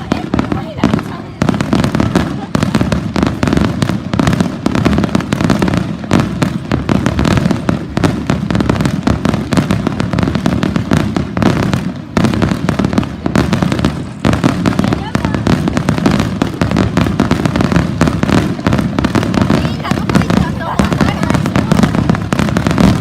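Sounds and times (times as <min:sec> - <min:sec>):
fireworks bursts and crackling: 0:00.0 - 0:23.0.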